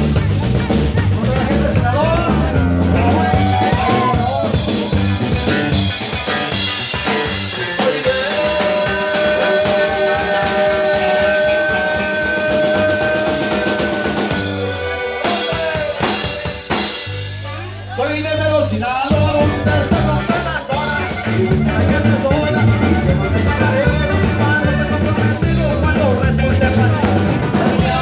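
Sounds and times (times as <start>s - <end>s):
steady drum beat: 0.0s - 17.9s, 19.0s - 28.0s
live band playing dance music: 0.0s - 28.0s.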